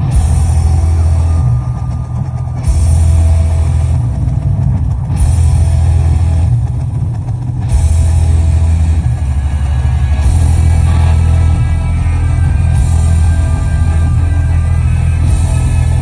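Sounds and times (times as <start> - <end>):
bass guitar: 0.0 - 16.0
bright cymbals and guitar: 0.0 - 16.0
heavy drums: 0.0 - 16.0
live hard rock band playing: 0.0 - 16.0.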